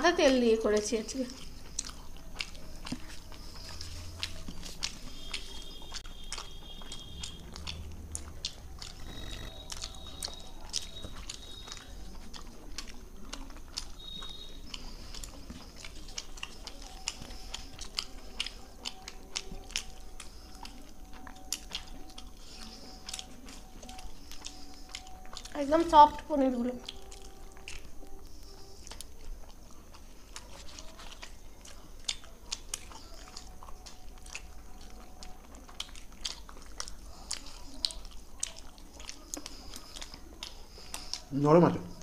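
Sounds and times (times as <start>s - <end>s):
people chewing: 0.0s - 42.0s.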